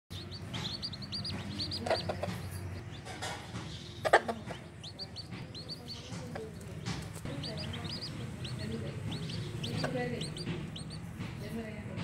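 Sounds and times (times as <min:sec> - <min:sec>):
hen clucking: 0:00.1 - 0:11.4
chicks peeping: 0:00.1 - 0:12.0.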